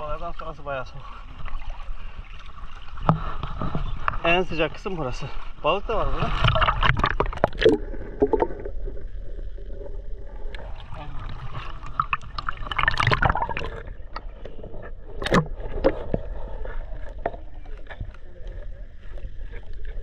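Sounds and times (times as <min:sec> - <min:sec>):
muffled underwater rumble: 0:00.0 - 0:20.0
water sloshing and gurgling: 0:00.0 - 0:20.0.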